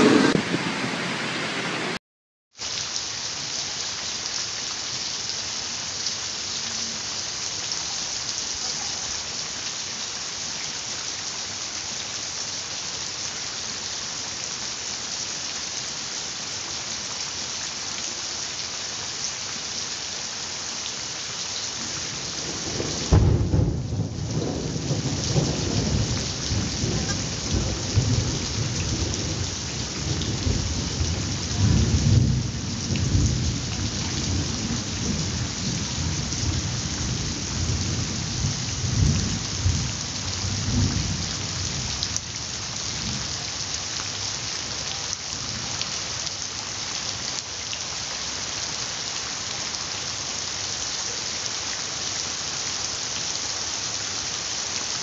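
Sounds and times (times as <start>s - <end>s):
heavy rain on concrete: 0.0s - 55.0s.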